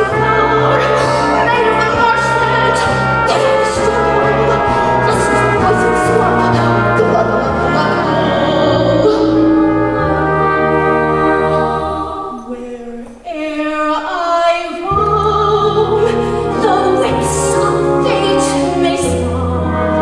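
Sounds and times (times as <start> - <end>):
orchestra with brass playing: 0.0 - 12.4, 15.7 - 20.0
woman singing: 0.0 - 20.0.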